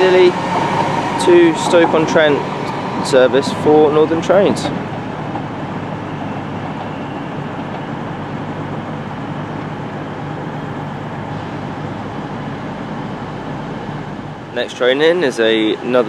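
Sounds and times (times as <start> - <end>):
electric train pulling away: 0.0 - 14.5.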